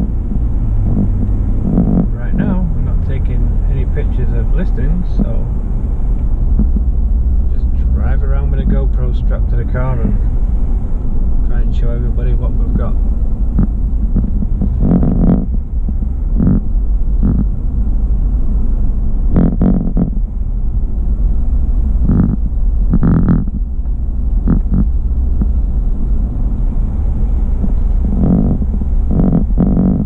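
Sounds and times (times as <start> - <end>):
car driving slowly: 0.0 - 30.0.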